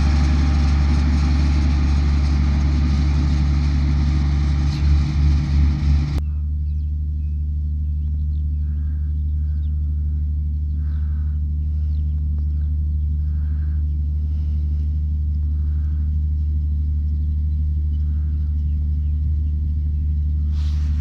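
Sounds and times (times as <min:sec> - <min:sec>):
birds chirping: 0:00.0 - 0:21.0
distant diesel engine drone: 0:00.0 - 0:21.0.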